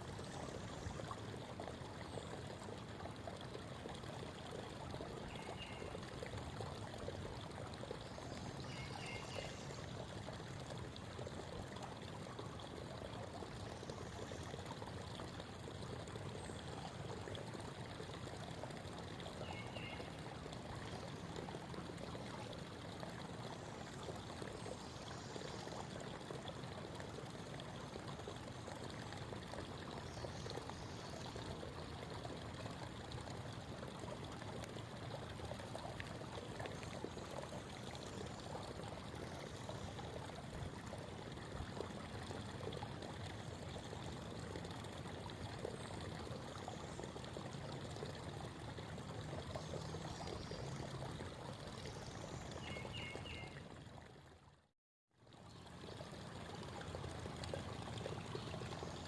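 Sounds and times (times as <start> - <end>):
creek babbling: 0.0 - 54.6, 55.2 - 59.0.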